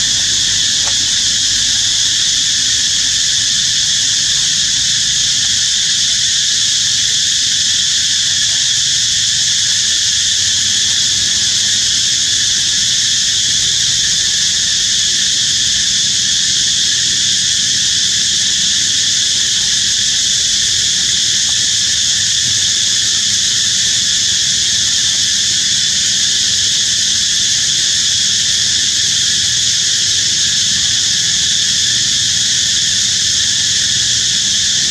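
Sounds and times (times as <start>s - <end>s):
insects chorus: 0.0s - 34.9s.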